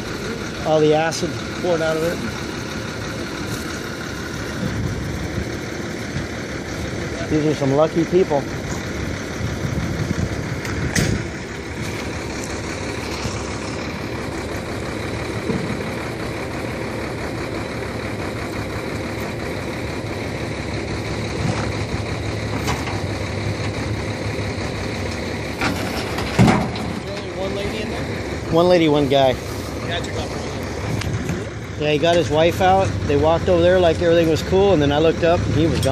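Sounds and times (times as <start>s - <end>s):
heavy vehicle engine idling: 0.0s - 35.9s.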